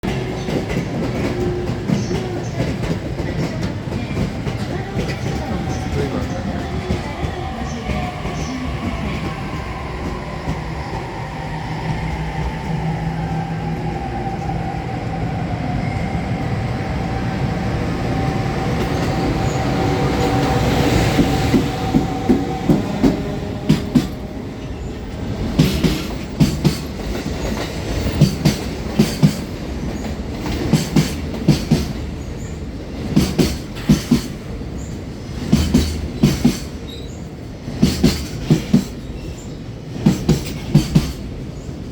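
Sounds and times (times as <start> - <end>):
wheels clacking over rail joints: 0.0 - 10.7, 18.2 - 41.9
train rolling noise: 0.0 - 41.9
electric locomotive whine: 0.1 - 41.9.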